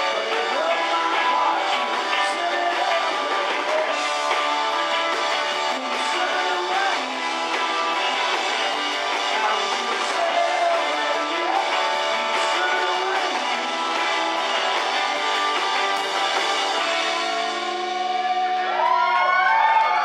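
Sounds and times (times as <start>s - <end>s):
live rock band playing: 0.0s - 18.8s.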